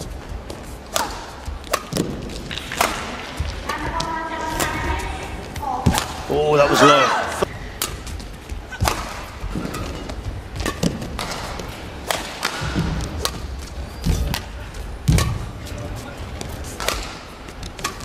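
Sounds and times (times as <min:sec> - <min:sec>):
racket striking shuttlecock: 0:00.7 - 0:06.4, 0:07.4 - 0:15.6, 0:16.6 - 0:18.0.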